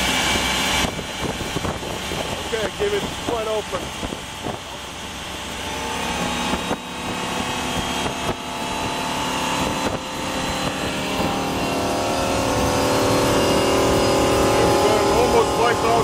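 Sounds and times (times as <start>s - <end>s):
boat engine at full throttle: 0.0s - 16.0s
rushing wind and water: 0.0s - 16.0s.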